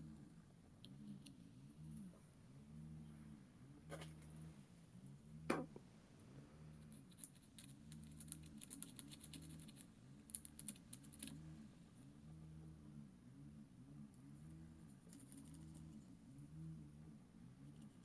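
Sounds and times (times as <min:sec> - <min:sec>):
low pulsing hum: 0:00.0 - 0:18.0.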